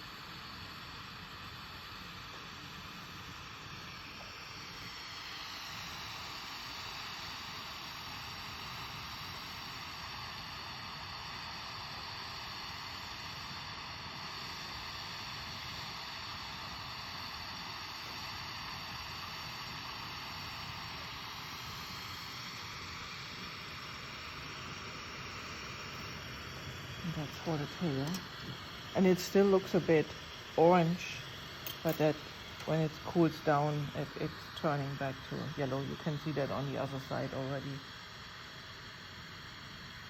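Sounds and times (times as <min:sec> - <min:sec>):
torch flame hissing: 0:00.0 - 0:40.0.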